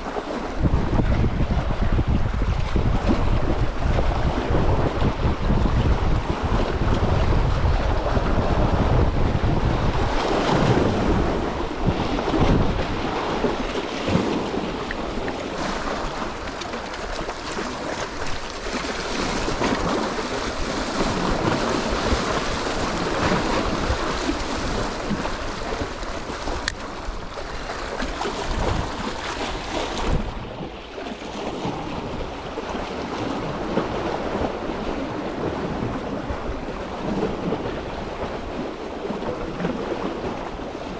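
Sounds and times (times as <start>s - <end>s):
sea waves: 0.0s - 40.9s
wind buffeting microphone: 0.0s - 40.9s.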